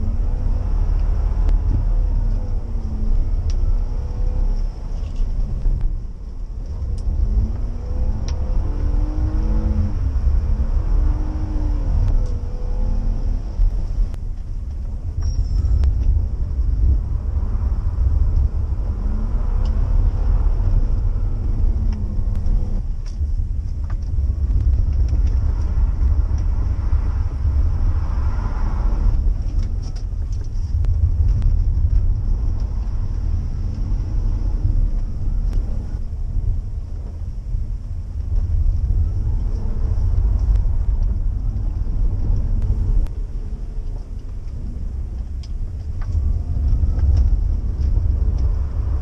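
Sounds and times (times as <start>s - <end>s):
car engine revving: 0.0s - 49.0s
tyre rumble on wet road: 0.0s - 49.0s.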